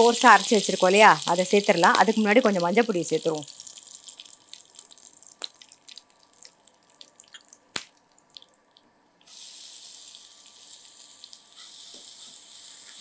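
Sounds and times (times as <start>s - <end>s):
hot oil crackling and popping: 0.0s - 13.0s
steady sizzle in oil: 0.0s - 13.0s.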